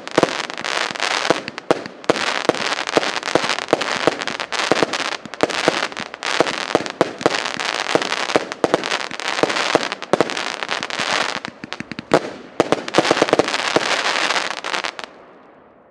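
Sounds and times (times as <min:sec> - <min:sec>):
firework bangs: 0:00.0 - 0:15.2
firework crackling: 0:00.0 - 0:15.2.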